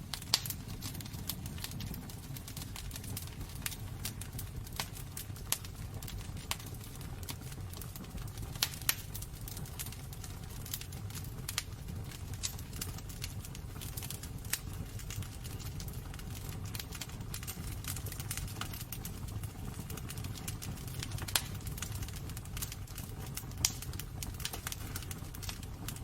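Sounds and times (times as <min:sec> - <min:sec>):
fire crackling and popping: 0:00.0 - 0:26.0
fire rumbling: 0:00.0 - 0:26.0.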